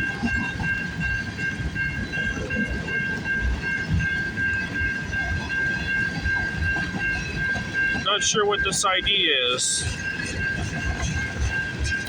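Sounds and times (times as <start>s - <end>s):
freight train cars rumbling past: 0.0s - 12.0s.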